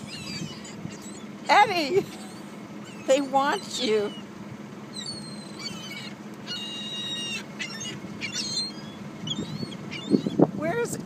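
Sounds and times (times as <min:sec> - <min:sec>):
seagulls crying: 0:00.0 - 0:10.8
steady low hum: 0:00.0 - 0:11.0.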